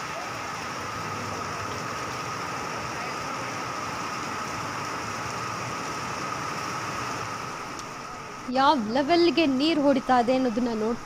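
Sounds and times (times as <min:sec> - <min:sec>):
constant high whine: 0:00.0 - 0:11.0
heavy rain on a flooded road: 0:00.0 - 0:11.0
traffic noise: 0:00.0 - 0:11.0.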